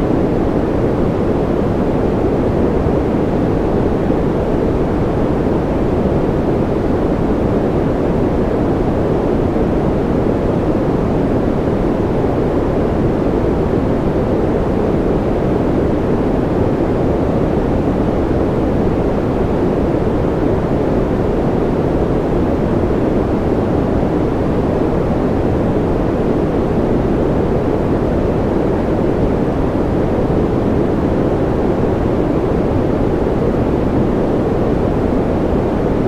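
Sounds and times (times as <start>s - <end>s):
deep white noise rush: 0.0s - 36.0s.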